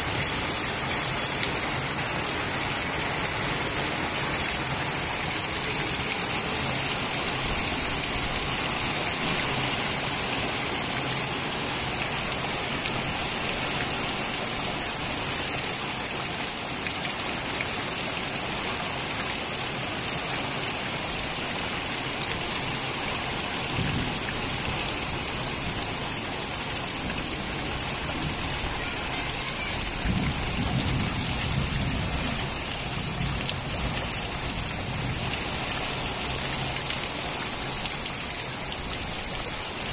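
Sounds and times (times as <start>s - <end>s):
heavy rain on concrete roof: 0.0s - 39.9s.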